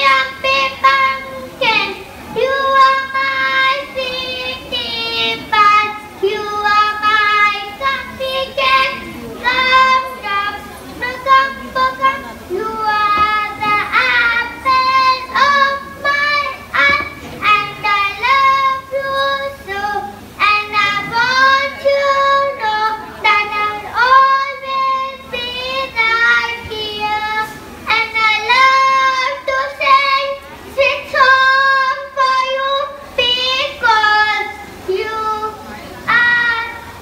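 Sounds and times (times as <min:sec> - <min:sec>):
girl singing into microphone: 0:00.0 - 0:37.0.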